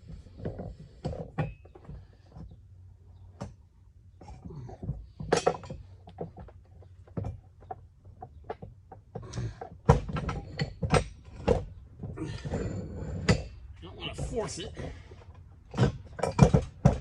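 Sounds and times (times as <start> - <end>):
metal clunks and knocks: 3.3 - 17.0.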